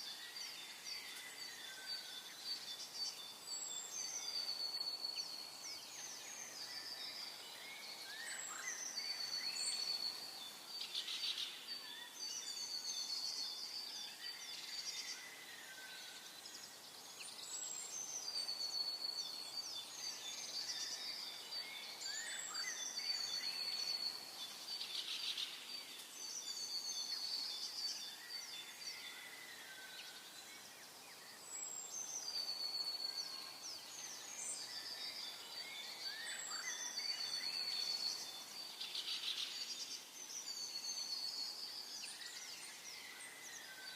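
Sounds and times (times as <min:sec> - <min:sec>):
faint outdoor background noise: 0:00.0 - 0:43.9
songbirds singing: 0:00.0 - 0:43.9.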